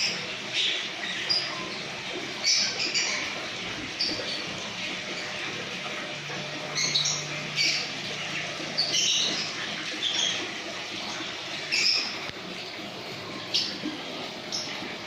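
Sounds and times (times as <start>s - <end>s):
birds squawking and chirping: 0.0s - 15.0s
high bird chatter: 0.0s - 15.0s.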